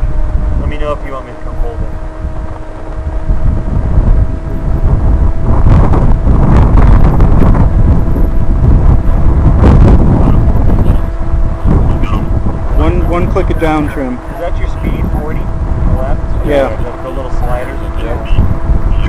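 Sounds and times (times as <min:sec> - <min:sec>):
thin steady hum: 0:00.0 - 0:19.0
wind buffeting microphone: 0:00.0 - 0:19.0.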